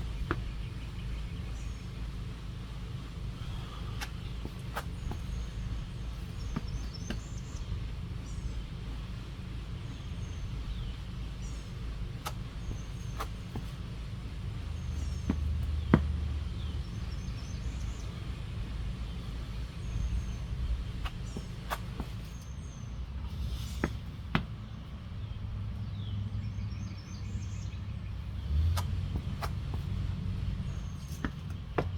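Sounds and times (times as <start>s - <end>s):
low outdoor rumble: 0.0s - 31.9s.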